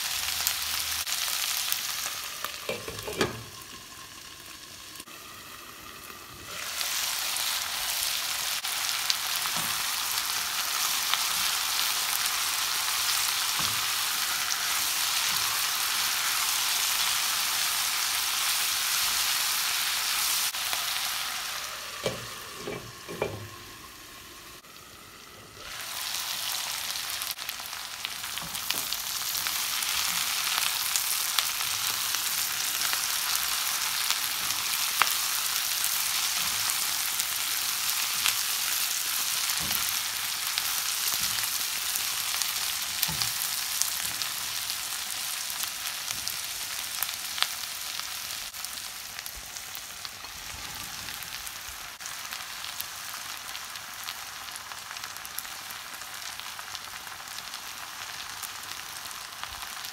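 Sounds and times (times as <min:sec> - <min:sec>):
vegetables sizzling in a frying pan: 0:00.0 - 0:59.9.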